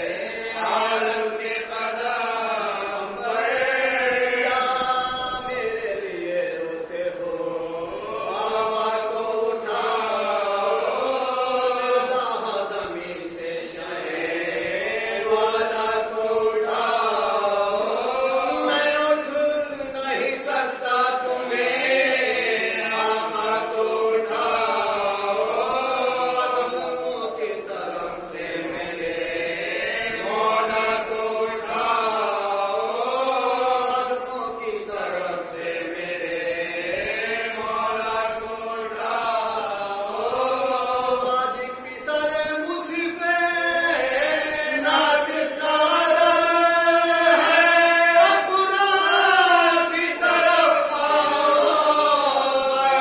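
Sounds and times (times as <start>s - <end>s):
men chanting together: 0.0s - 53.0s.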